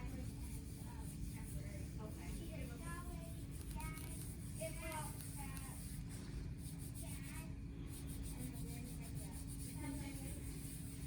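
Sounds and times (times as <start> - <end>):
faint indistinct voices: 0.0 - 11.0
steady low hum: 0.0 - 11.0.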